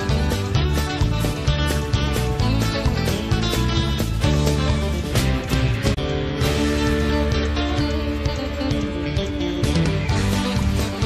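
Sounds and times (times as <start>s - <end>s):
country music with guitar: 0.0s - 11.0s.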